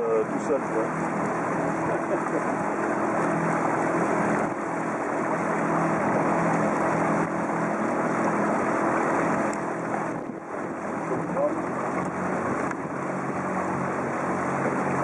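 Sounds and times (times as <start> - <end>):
outboard motor running: 0.0 - 15.0
rushing water: 0.0 - 15.0
wind: 0.0 - 15.0.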